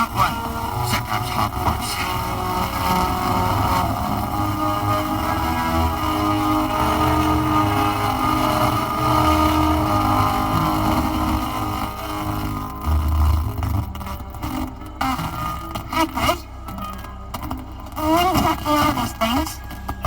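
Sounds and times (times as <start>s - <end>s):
film soundtrack through car speakers: 0.0s - 20.0s.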